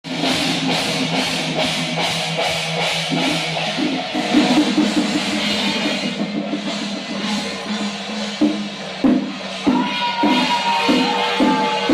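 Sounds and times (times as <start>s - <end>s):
drums and cymbals: 0.0s - 11.9s.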